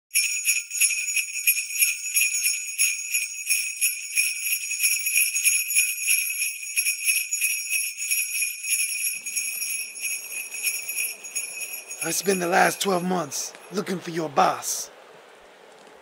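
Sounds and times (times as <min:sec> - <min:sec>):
sleigh bells jingling: 0:00.1 - 0:14.9.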